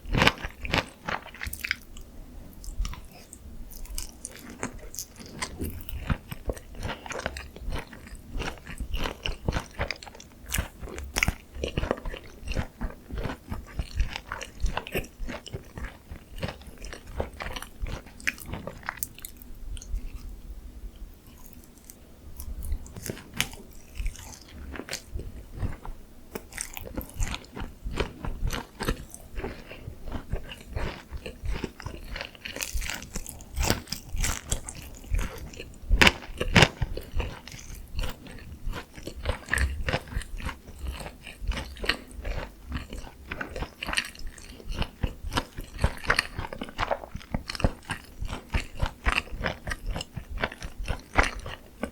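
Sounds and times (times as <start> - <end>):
crunchy fried chicken chewing: 0.0 - 20.4, 21.2 - 51.9.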